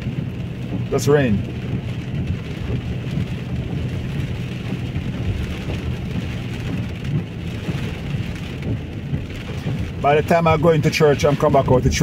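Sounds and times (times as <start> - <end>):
heavy rain hissing: 0.0 - 12.0
low rumble: 0.0 - 12.0.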